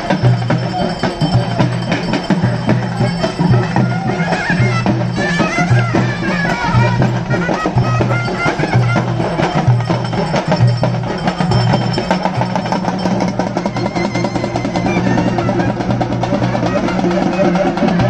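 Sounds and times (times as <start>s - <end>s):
barrel drums drumming: 0.0s - 18.0s.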